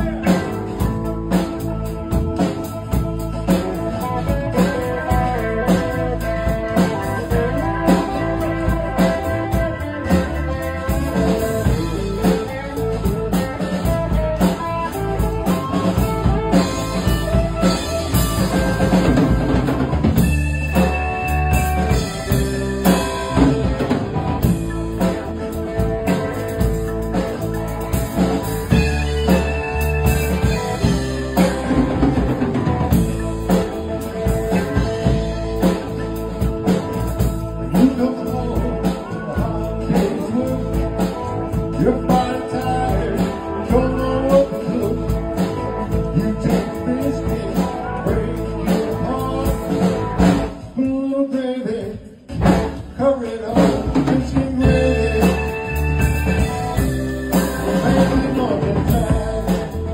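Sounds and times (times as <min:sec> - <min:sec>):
live band playing: 0:00.0 - 0:59.9
steady drums: 0:00.0 - 0:59.9.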